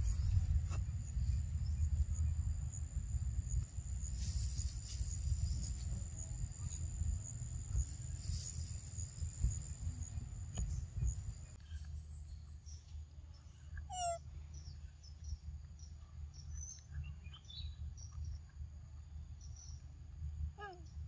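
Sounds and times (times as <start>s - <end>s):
low microphone rumble: 0.0s - 21.0s.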